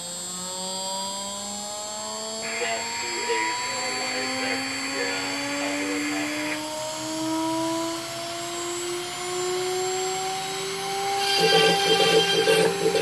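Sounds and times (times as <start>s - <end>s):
router bit cutting wood: 0.0s - 13.0s
router spindle motor whining: 0.0s - 13.0s.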